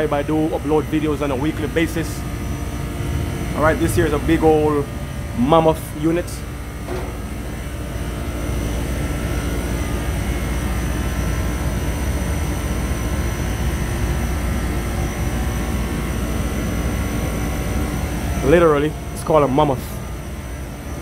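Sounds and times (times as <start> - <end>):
high steady whine: 0.0 - 21.0
machinery rumble: 0.0 - 21.0.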